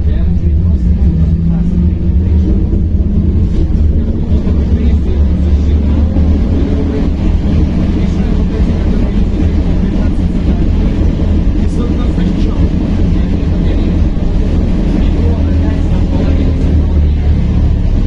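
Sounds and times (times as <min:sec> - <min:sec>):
faint passenger voices: 0:00.0 - 0:18.0
vehicle rumble inside cabin: 0:00.0 - 0:18.0.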